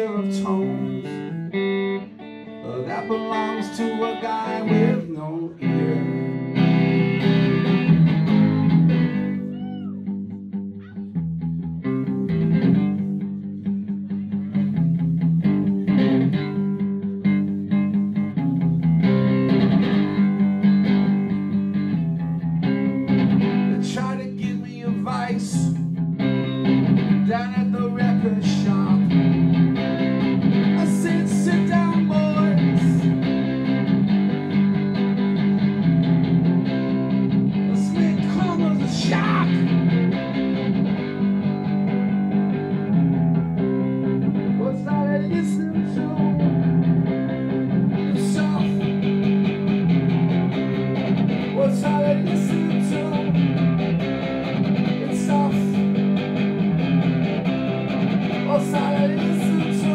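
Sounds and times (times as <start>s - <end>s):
electric guitar strumming chords: 0.0s - 59.9s.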